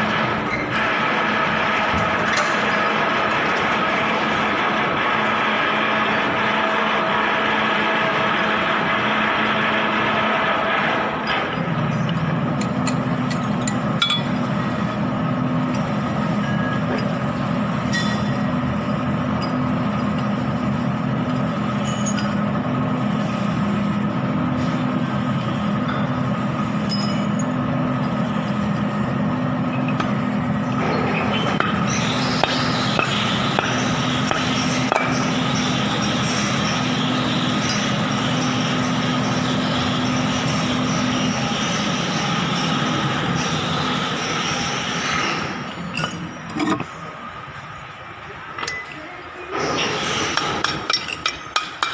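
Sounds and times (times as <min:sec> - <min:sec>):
machine humming: 0:00.0 - 0:48.4.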